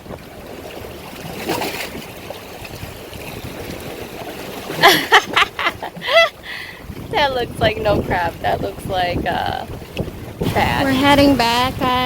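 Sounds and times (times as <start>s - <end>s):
waves splashing against rocks: 0.0s - 12.0s.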